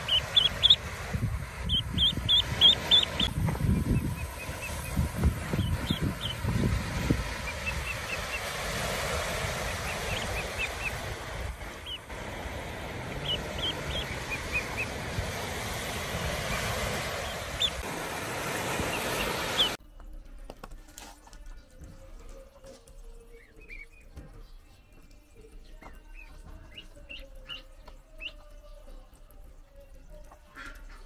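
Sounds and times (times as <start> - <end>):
ducklings peeping: 0.0 - 17.9, 18.5 - 19.8, 21.5 - 31.0.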